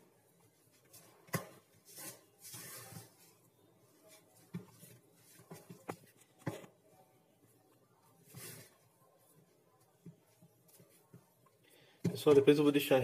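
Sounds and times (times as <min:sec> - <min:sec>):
dough squishing: 0:00.0 - 0:13.0.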